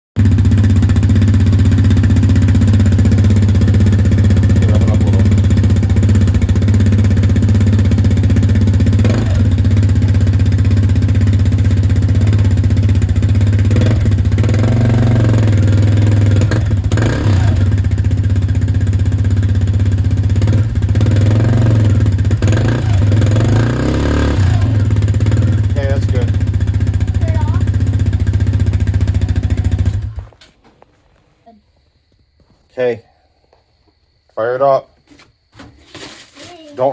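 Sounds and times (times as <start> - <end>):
small atv engine running: 0.2 - 30.4.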